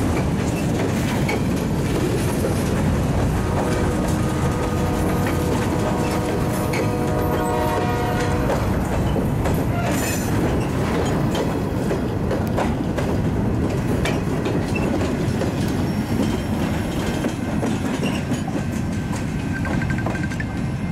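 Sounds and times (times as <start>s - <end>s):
train wheels rumbling on rails: 0.0s - 20.9s
wheels clicking over rail joints: 0.0s - 20.9s.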